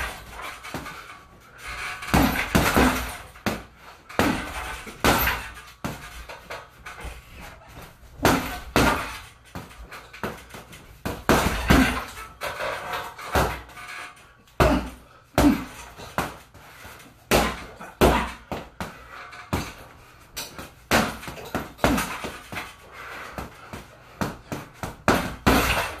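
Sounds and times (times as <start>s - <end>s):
gloves punching a heavy bag: 0.0s - 13.8s, 14.5s - 26.0s.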